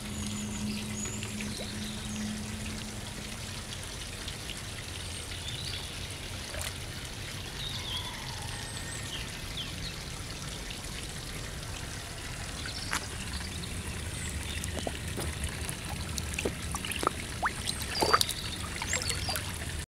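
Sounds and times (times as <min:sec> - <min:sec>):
fish splashing and slurping: 0:00.0 - 0:19.8
water trickling into pond: 0:00.0 - 0:19.9.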